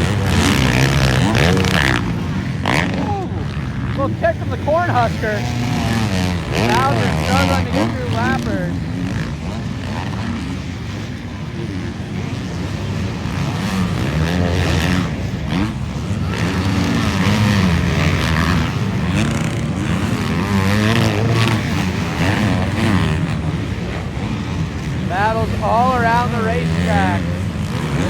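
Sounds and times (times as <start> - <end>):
motocross bike engines racing: 0.0 - 28.0.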